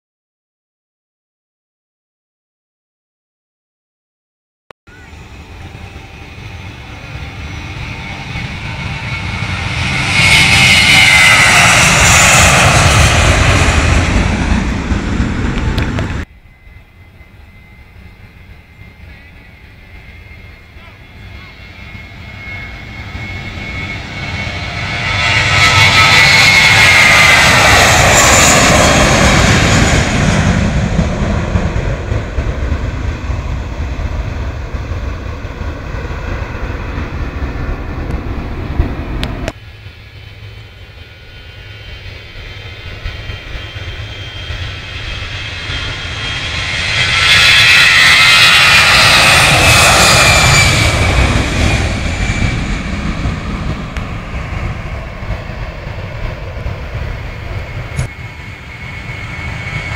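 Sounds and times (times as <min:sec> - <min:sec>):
jet airliner passing overhead: 0:04.9 - 0:59.9.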